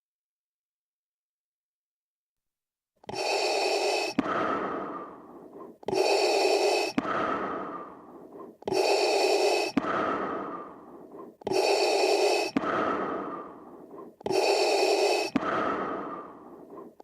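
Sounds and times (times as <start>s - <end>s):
mechanical respirator breathing: 3.0s - 17.0s.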